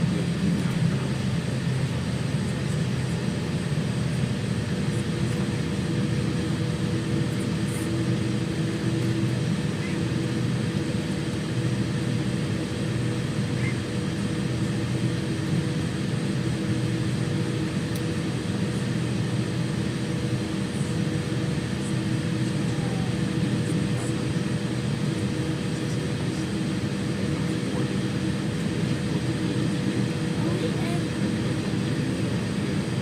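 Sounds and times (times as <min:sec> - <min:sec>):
airliner cabin engine and airflow hum: 0:00.0 - 0:33.0.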